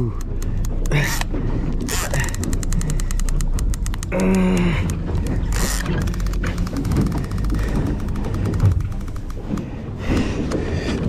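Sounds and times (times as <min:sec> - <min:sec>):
steady low hum: 0:00.0 - 0:11.0
fishing reel clicking rapidly: 0:00.3 - 0:09.6.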